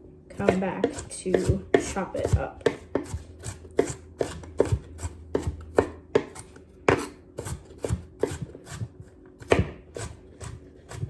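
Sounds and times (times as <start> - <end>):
knife chopping on cutting board: 0.4 - 11.0.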